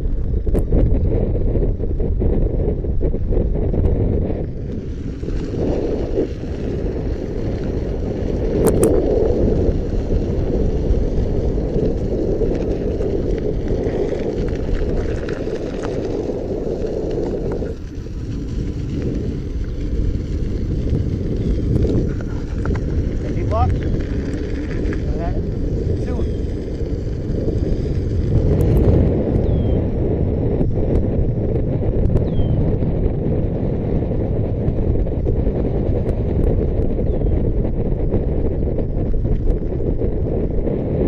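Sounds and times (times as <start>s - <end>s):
wind buffeting microphone: 0.0s - 41.0s
tyre noise: 3.6s - 41.0s.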